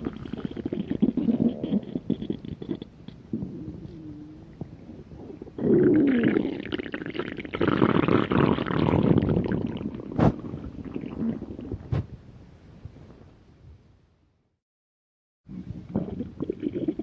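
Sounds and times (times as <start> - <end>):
stomach growling: 0.0 - 12.2, 15.5 - 17.0.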